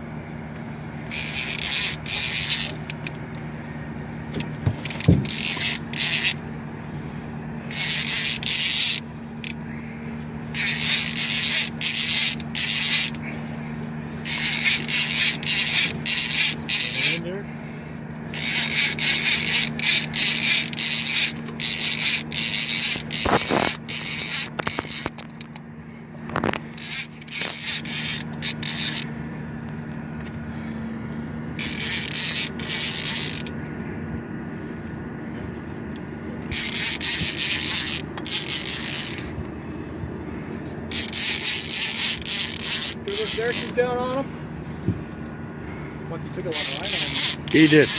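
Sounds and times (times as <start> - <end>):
steady low hum: 0.0 - 47.9
fishing reel buzzing: 1.0 - 3.2, 4.3 - 17.4, 18.3 - 35.4, 36.3 - 44.3, 46.4 - 47.9.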